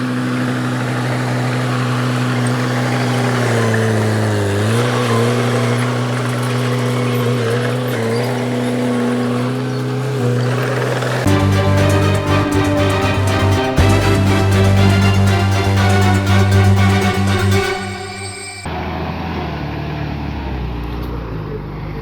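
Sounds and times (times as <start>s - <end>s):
bulldozer diesel engine running: 0.0s - 18.7s.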